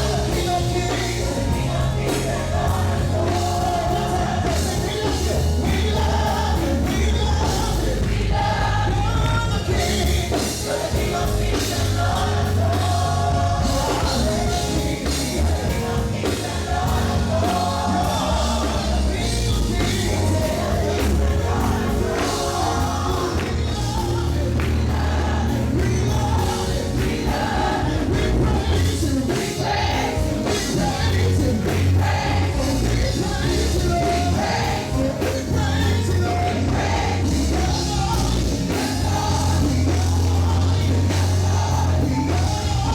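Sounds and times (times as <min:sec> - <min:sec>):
live gospel band: 0:00.0 - 0:42.9
voices singing together: 0:00.0 - 0:42.9.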